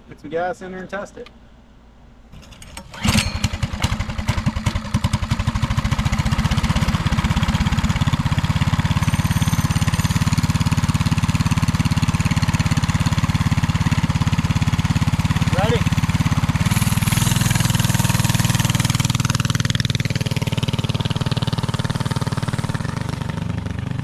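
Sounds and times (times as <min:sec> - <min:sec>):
mini bike engine idling: 0:02.4 - 0:24.0.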